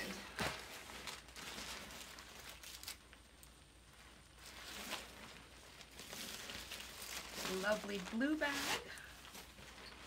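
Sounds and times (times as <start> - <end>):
nylon bag rustling: 0.0 - 3.2, 3.8 - 10.0.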